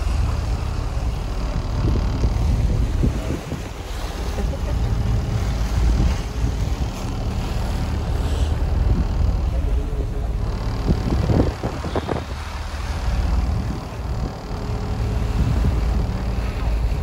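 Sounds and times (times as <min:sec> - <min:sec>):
boat engine rumble: 0:00.0 - 0:17.0
wind buffeting microphone: 0:00.0 - 0:17.0.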